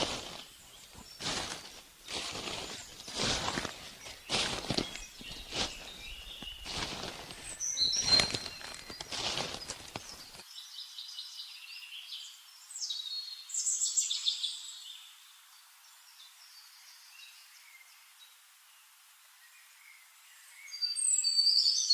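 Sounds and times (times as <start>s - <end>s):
songbirds chirping and trilling: 0.0s - 18.2s.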